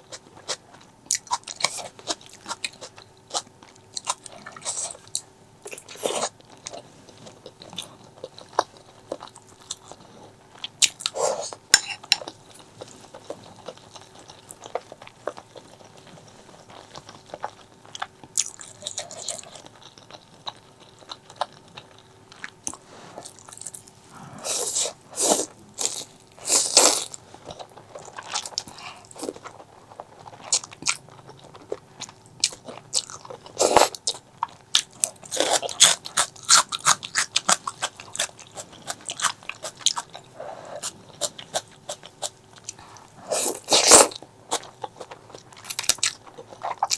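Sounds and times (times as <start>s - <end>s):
crisp chewing crunches: 0.0s - 46.9s.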